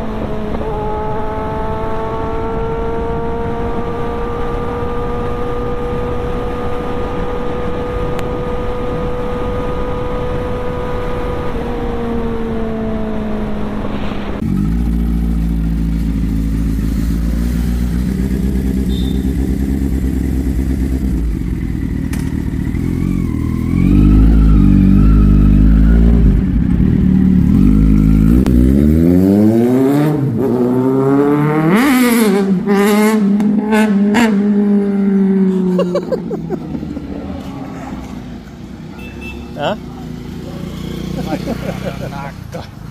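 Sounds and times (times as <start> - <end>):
motorcycle engine: 0.0 - 42.9.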